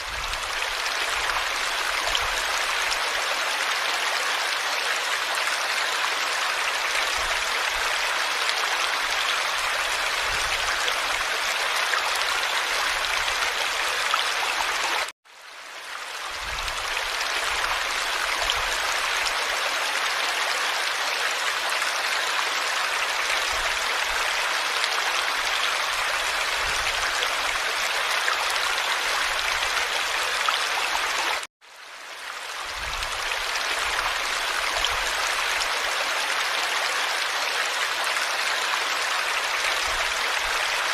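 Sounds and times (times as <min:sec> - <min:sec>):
running water rushing: 0:00.0 - 0:15.1, 0:15.8 - 0:40.9.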